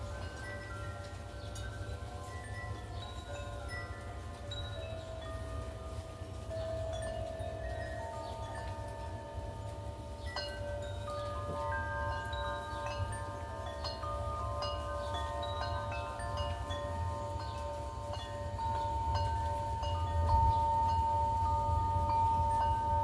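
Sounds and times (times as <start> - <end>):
wind chimes ringing: 0.0 - 23.0
wind rumbling: 0.0 - 23.0.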